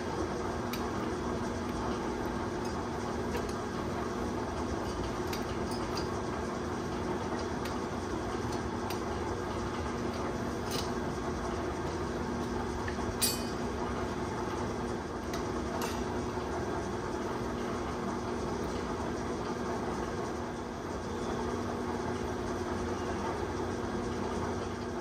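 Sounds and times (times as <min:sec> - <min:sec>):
shop fans humming: 0:00.0 - 0:25.0.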